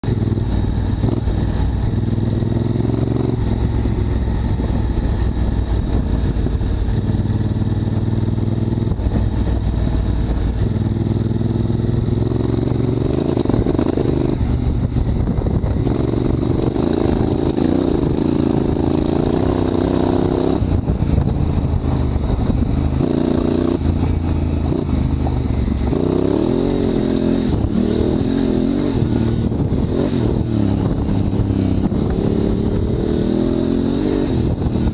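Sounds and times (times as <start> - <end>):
motorcycle engine revving through gears: 0.0 - 34.9.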